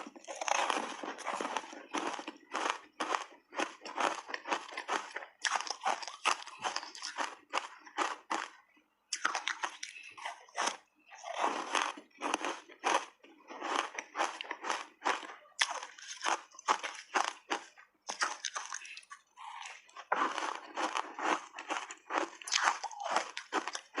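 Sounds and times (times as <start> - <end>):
ice being chewed: 0.0 - 24.0.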